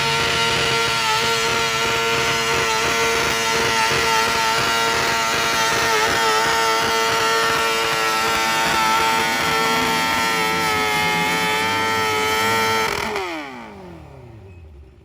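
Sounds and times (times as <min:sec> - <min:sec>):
tractor engine running at high revs: 0:00.0 - 0:15.0.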